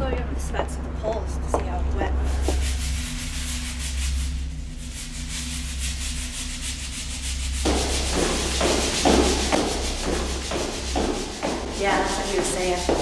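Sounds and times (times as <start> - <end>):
steady low hum: 0.0 - 13.0
cloth scrubbing a wall: 2.2 - 13.0.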